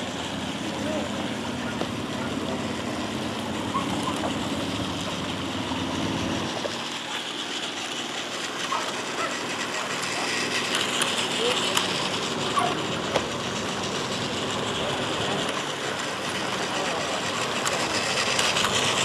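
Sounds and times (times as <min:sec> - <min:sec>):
rushing outdoor noise: 0:00.0 - 0:19.0
toy train running on track: 0:00.0 - 0:19.0.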